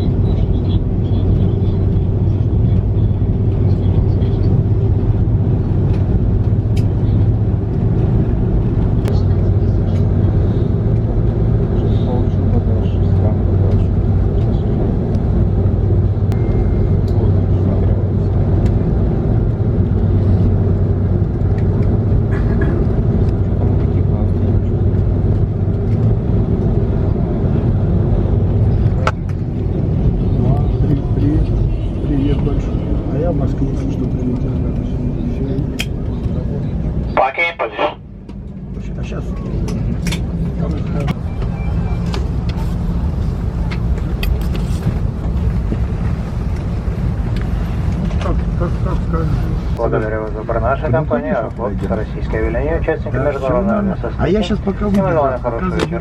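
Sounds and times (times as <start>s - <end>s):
aircraft engines idling rumble: 0.0s - 56.0s
constant low hum: 0.0s - 56.0s.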